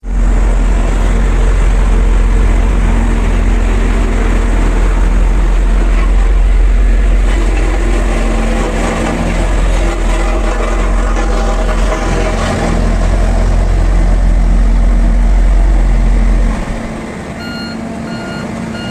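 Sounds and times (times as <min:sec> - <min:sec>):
road roller engine rumbling: 0:00.0 - 0:18.9.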